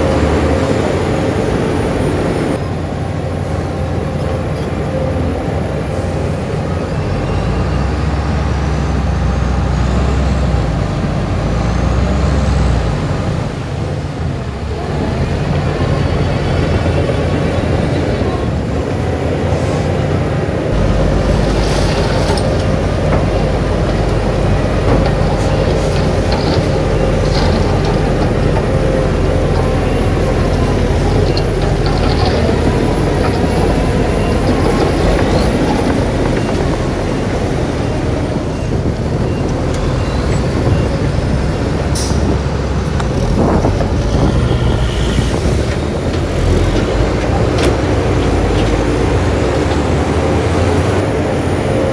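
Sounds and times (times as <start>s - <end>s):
diesel machinery engine rumble: 0.0s - 51.9s.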